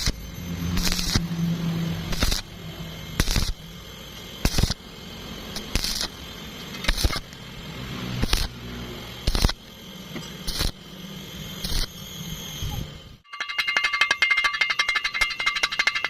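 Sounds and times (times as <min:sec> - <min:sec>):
welding arc crackling hiss: 0:00.0 - 0:13.2.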